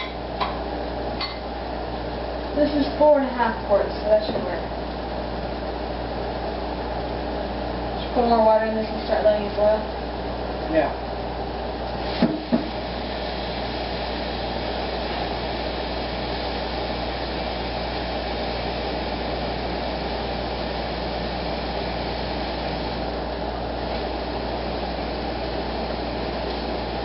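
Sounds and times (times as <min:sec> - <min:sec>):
range hood fan running: 0:00.0 - 0:27.0.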